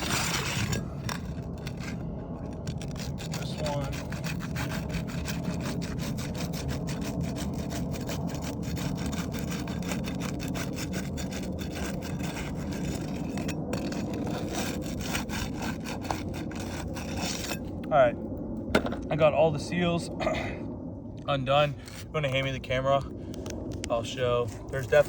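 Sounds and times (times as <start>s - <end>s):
metal bar scraping under shingles: 0.0s - 17.9s, 21.5s - 22.8s, 24.1s - 25.0s.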